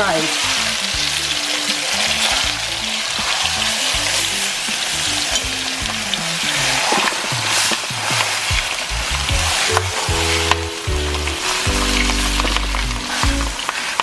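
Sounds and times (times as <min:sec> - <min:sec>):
background music: 0:00.0 - 0:14.0
meat sizzling in hot oil: 0:00.0 - 0:14.0.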